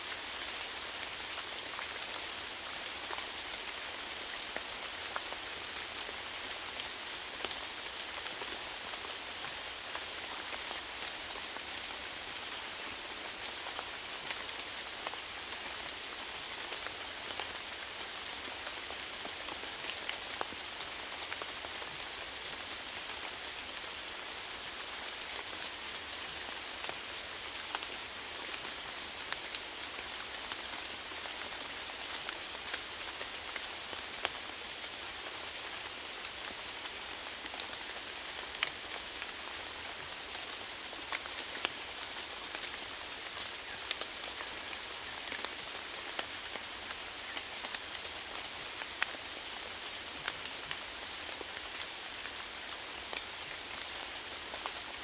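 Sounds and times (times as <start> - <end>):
rain hissing on a surface: 0.0 - 55.0.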